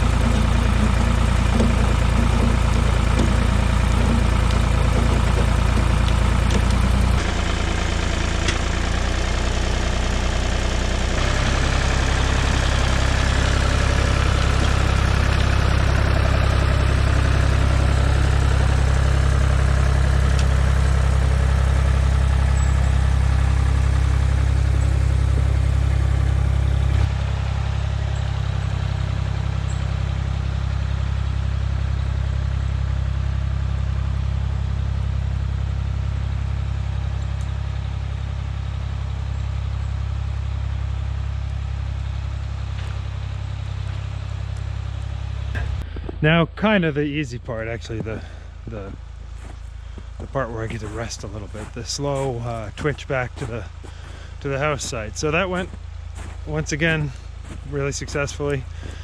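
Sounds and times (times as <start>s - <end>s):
heavy engine droning: 0.0s - 59.0s.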